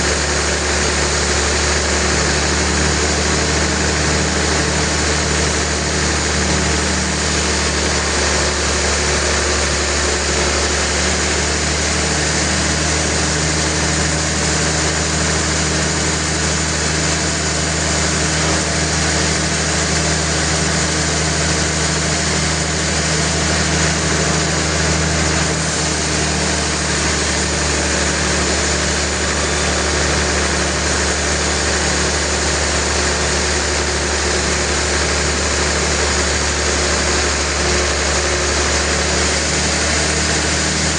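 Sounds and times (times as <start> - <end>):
machinery engine drone: 0.0 - 40.9
saw noise: 0.0 - 40.9.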